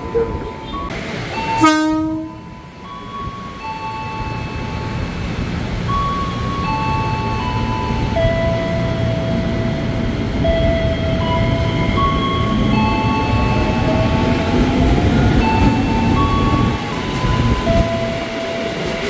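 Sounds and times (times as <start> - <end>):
train cars rumbling: 0.0 - 19.0.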